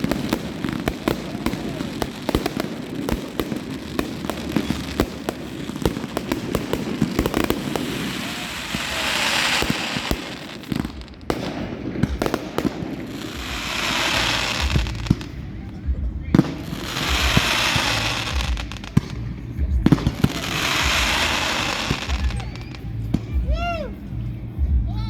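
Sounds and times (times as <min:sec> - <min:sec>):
fireworks bangs and cracks: 0:00.0 - 0:24.9
fireworks hissing crackles: 0:00.0 - 0:24.9.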